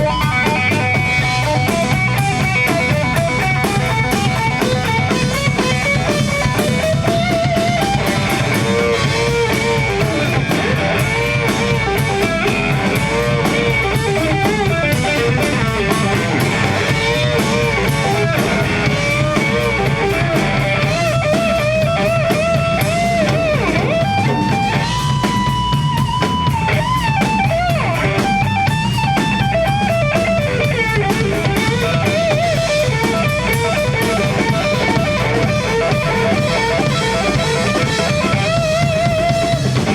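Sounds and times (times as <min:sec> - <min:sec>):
drum kit playing: 0:00.0 - 0:39.9
electric guitar lead: 0:00.0 - 0:39.9.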